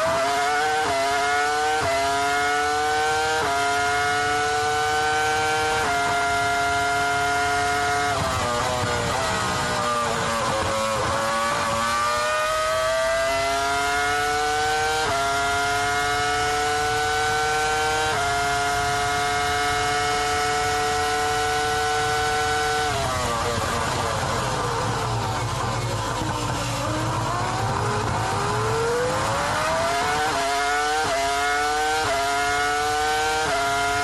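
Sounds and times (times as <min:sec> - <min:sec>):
racing car engine revving: 0:00.0 - 0:34.0.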